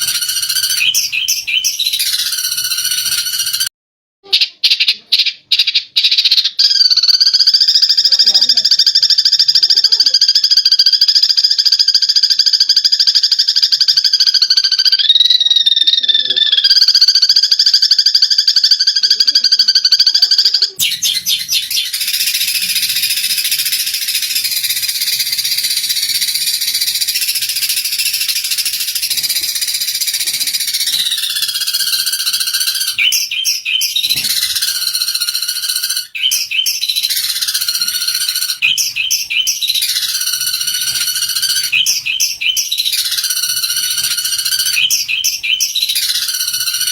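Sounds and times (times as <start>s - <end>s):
sparrows chattering: 0.0s - 3.7s, 4.4s - 15.2s, 16.2s - 46.9s.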